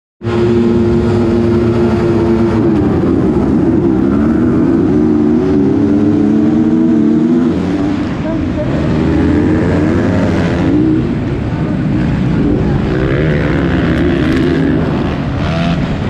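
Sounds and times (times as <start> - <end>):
motocross bike engines revving: 0.2 - 16.0.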